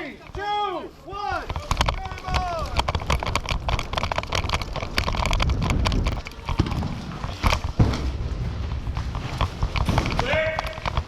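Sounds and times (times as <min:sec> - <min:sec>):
sharp clicks and knocks: 0:01.4 - 0:11.0
handling rumble on microphone: 0:01.5 - 0:11.0.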